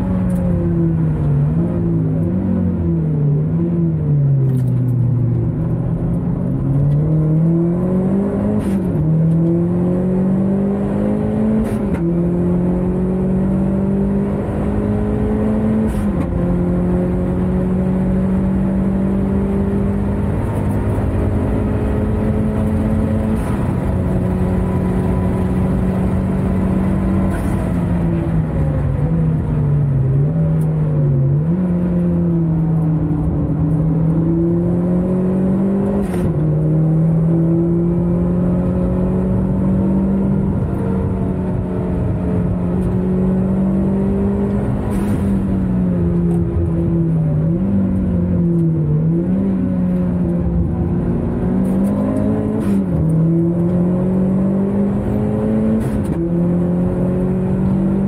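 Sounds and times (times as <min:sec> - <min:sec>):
car engine accelerating and shifting: 0:00.0 - 0:58.0.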